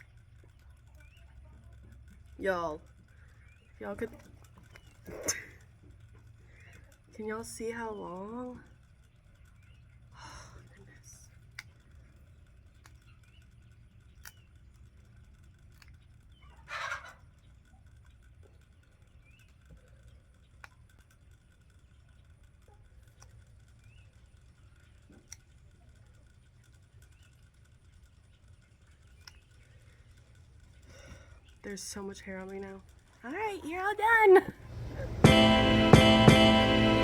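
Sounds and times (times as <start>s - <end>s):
faint bird calls: 0.0s - 32.0s.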